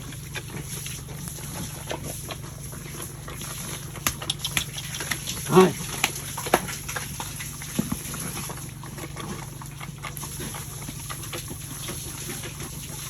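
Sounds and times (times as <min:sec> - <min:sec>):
pigs eating clicks and smacks: 0:00.0 - 0:13.0
steady low hum: 0:00.0 - 0:13.0.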